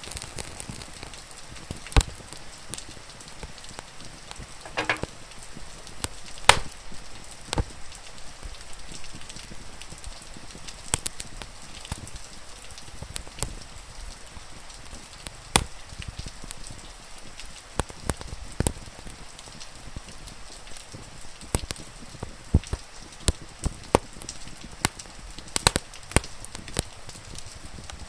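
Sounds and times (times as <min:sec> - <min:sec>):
rain hiss: 0:00.0 - 0:28.0
wood fire crackling: 0:00.0 - 0:28.0.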